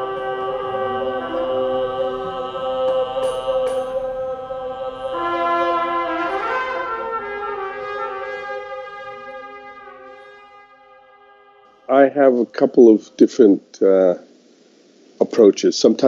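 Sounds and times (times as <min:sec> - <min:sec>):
trumpet long held notes: 0:00.0 - 0:12.9.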